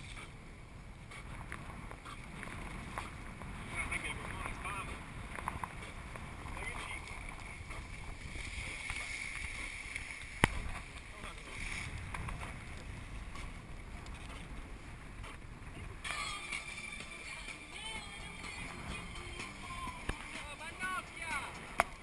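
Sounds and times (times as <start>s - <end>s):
motorboat engine drone: 0.0s - 22.0s
water rushing past hull: 0.0s - 22.0s
wind on microphone: 0.0s - 22.0s.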